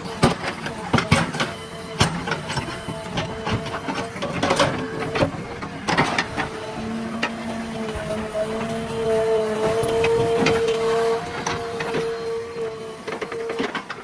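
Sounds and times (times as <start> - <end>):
heavy machine engine whining: 0.0 - 14.0.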